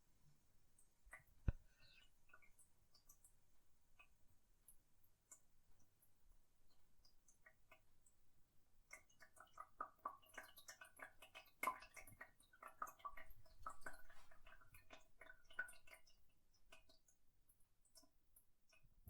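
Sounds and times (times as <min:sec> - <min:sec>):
water dripping in toilet: 0:00.1 - 0:19.0.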